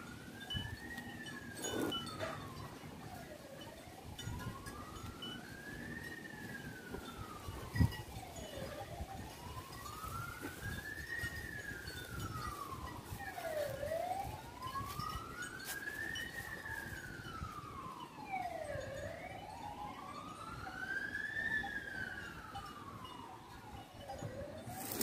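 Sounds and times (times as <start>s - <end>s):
siren wailing: 0.0s - 25.0s.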